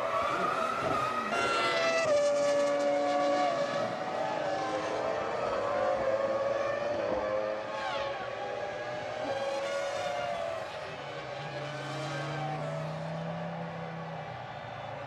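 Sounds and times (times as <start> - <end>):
racing car engines at high revs: 0.0 - 15.0
racing car passing by: 0.0 - 15.0.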